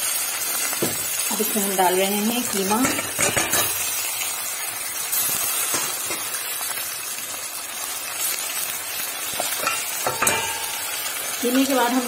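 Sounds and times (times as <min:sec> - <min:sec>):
hot oil sizzling in a pot: 0:00.0 - 0:12.0.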